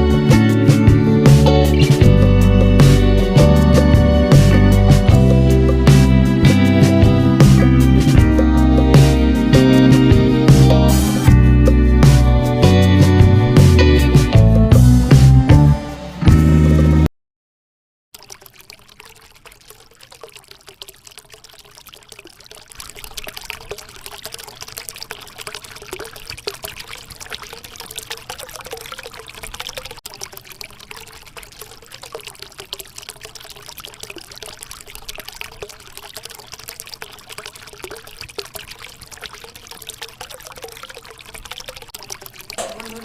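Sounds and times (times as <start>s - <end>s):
fountain water trickling: 0.0s - 12.2s, 18.2s - 43.0s.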